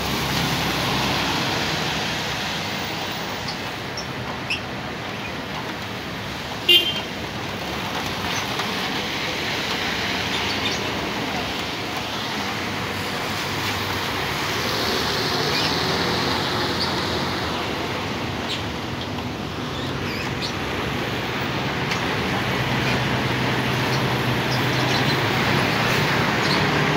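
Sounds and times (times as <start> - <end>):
tyres hissing on wet road: 0.0 - 26.9.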